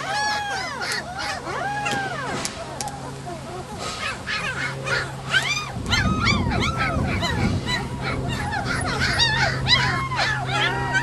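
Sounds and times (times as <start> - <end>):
puppies whimpering and yelping: 0.0 - 11.0.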